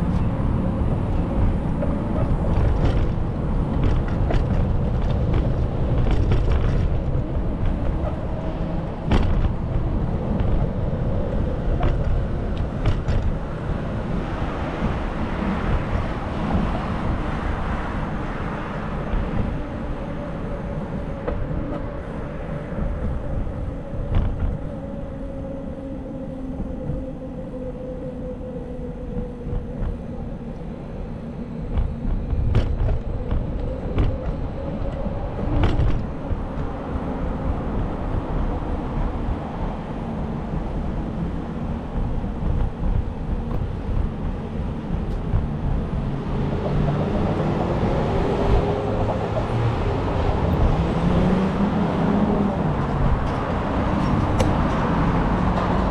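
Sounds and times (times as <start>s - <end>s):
street traffic rumble: 0.0s - 55.9s.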